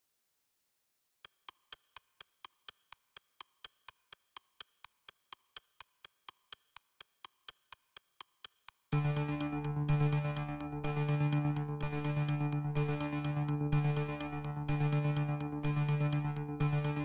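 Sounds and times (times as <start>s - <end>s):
steady sharp ticking: 1.2s - 17.0s.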